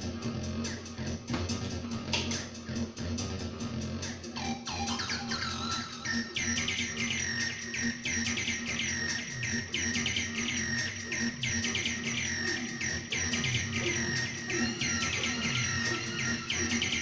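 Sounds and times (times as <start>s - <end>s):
chirping synth notes sweeping down: 0.0s - 17.0s
low synth drone and pulses: 0.0s - 17.0s.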